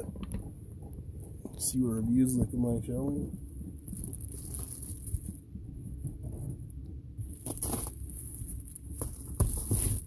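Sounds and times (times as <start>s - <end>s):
air heater humming: 0.0s - 10.0s.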